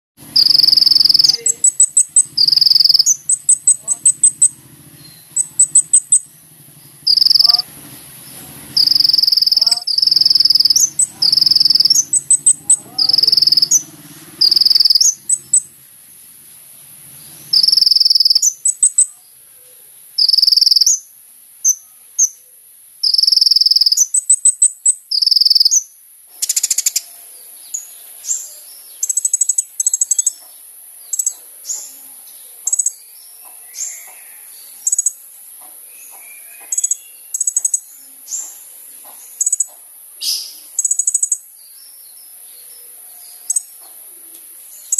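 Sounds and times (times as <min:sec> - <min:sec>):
bird chirping and trilling: 0:00.2 - 0:15.8, 0:16.8 - 0:35.3, 0:35.9 - 0:43.9
bird singing shrill notes: 0:00.2 - 0:15.8, 0:17.2 - 0:19.2, 0:20.2 - 0:22.4, 0:23.0 - 0:30.4, 0:31.0 - 0:32.0, 0:32.7 - 0:35.2, 0:35.9 - 0:38.5, 0:39.3 - 0:42.2, 0:42.8 - 0:43.8.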